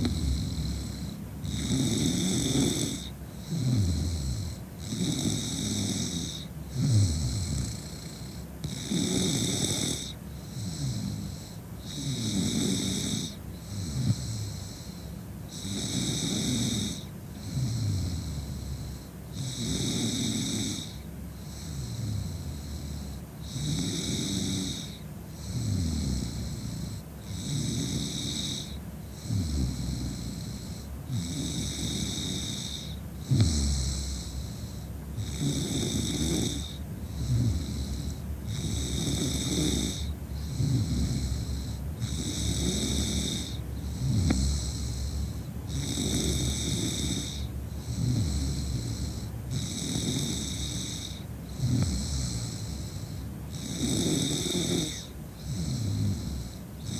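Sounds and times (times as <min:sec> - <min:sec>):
woman snoring: 0:00.0 - 0:56.9.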